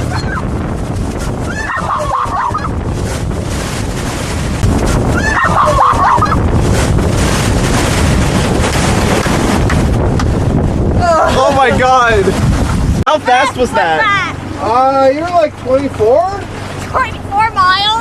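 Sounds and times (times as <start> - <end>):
motorboat running at speed: 0.0 - 18.0
water rushing: 0.0 - 18.0
wind buffeting microphone: 0.0 - 18.0.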